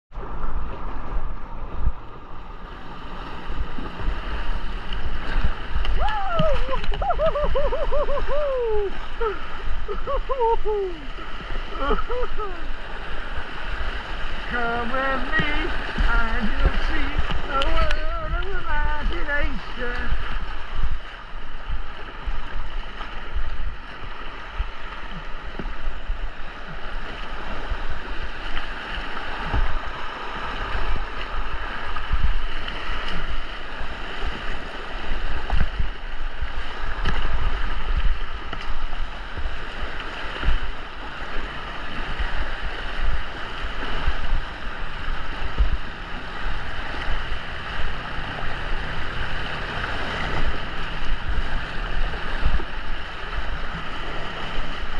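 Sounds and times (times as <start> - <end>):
white water rushing: 0.2 - 54.9.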